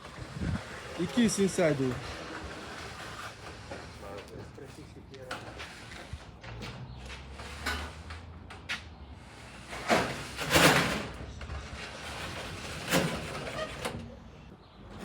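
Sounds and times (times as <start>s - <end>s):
metal garage door rattling slide: 0.0s - 4.2s, 5.3s - 14.2s.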